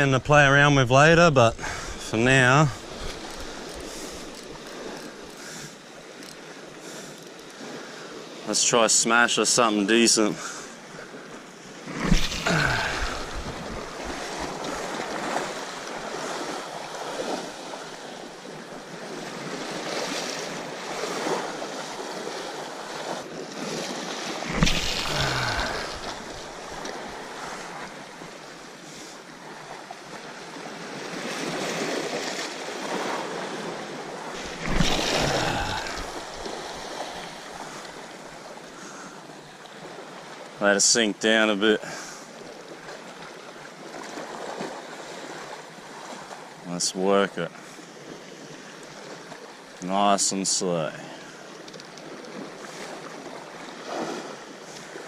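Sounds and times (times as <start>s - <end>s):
surf washing against rocks: 0.0s - 43.2s, 43.8s - 55.0s.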